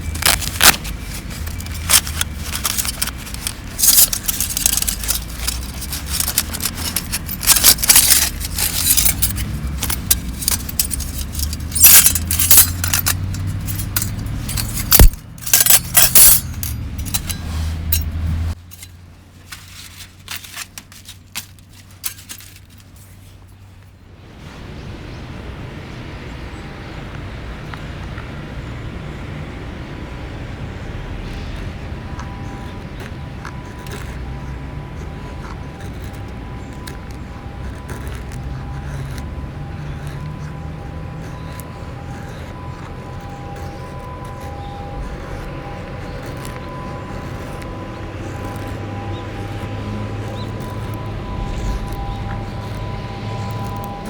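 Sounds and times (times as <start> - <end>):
small metal items clinking: 0.0 - 23.6, 32.1 - 54.0.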